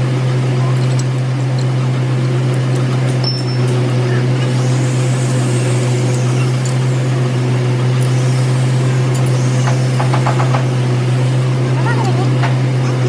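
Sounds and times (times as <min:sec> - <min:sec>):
workshop machine humming: 0:00.0 - 0:13.0.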